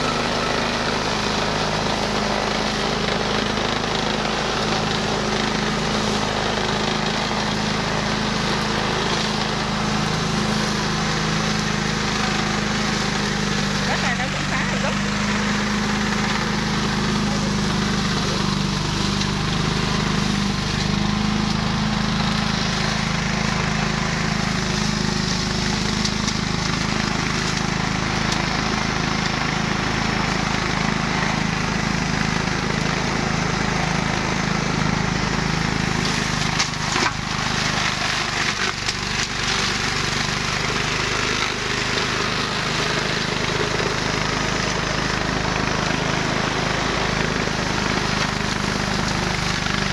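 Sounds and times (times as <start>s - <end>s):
petrol engine hum: 0.0s - 49.9s.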